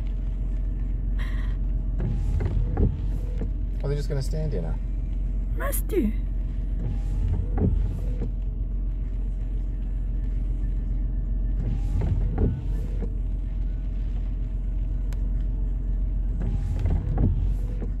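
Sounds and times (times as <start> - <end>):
car engine idling: 0.0 - 18.0
windscreen wipers sweeping: 0.0 - 18.0.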